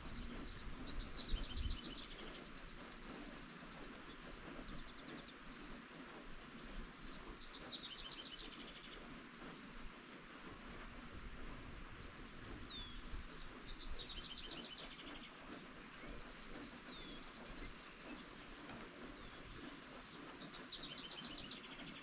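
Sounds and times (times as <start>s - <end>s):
songbirds singing: 0.0s - 9.7s, 11.6s - 22.0s
steady rain falling: 0.0s - 22.0s.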